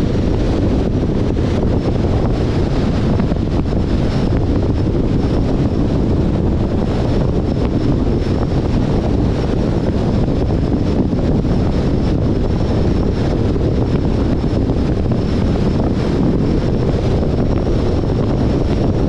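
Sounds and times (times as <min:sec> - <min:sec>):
car road noise: 0:00.0 - 0:19.0
wind rushing over microphone: 0:00.0 - 0:19.0.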